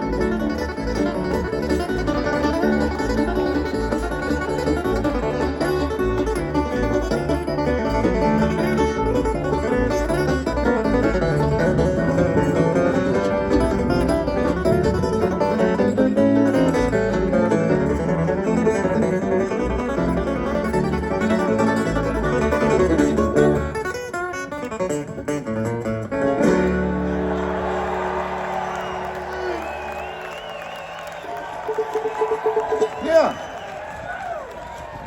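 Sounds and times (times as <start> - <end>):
bluegrass band with guitar and banjo: 0.0 - 33.5.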